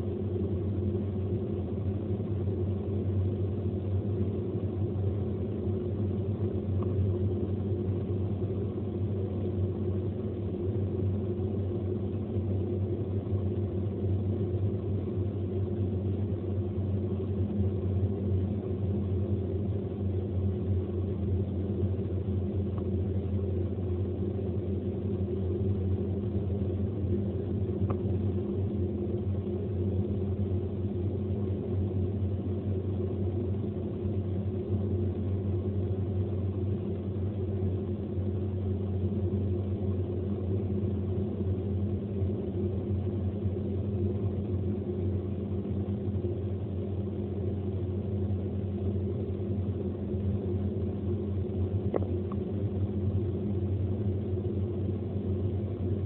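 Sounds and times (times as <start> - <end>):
car driving inside cabin drone: 0.0 - 56.0.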